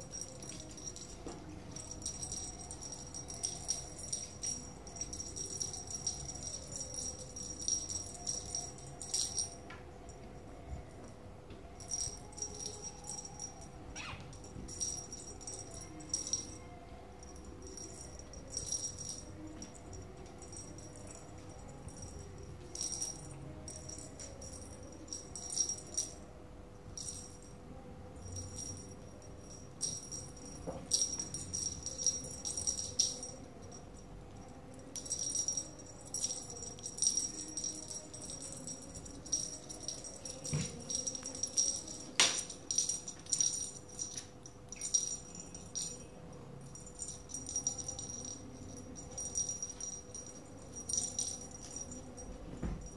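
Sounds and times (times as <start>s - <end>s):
small bell jingling: 0.0s - 27.6s, 28.2s - 52.9s.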